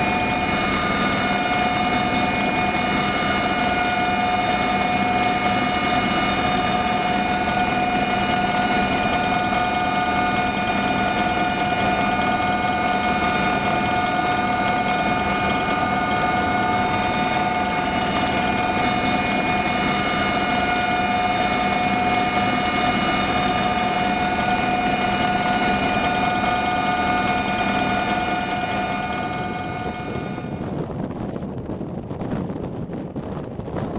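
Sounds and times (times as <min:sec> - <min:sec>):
constant low rumble: 0:00.0 - 0:33.9
helicopter turbine whine: 0:00.0 - 0:33.9.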